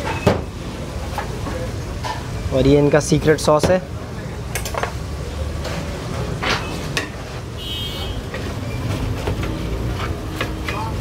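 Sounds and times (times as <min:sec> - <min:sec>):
crowd noise: 0:00.0 - 0:11.0
traffic rumble: 0:00.0 - 0:11.0.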